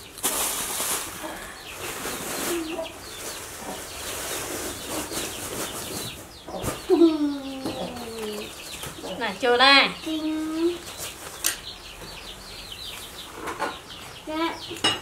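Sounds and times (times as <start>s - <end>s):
faint chirping: 0.0s - 15.0s.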